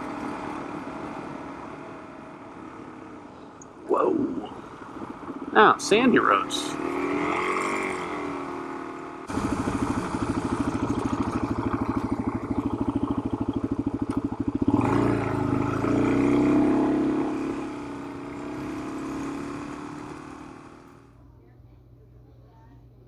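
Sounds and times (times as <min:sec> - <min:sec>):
motorcycle engine chugging: 0:00.0 - 0:21.1.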